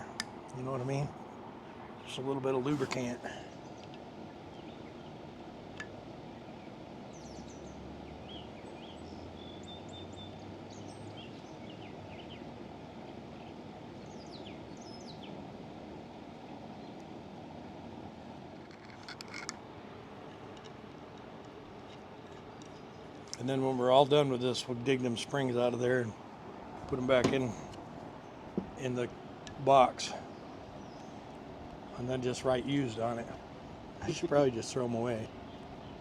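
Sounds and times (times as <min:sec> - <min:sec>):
birds chirping: 0:00.0 - 0:12.5, 0:13.3 - 0:15.4, 0:20.1 - 0:36.0.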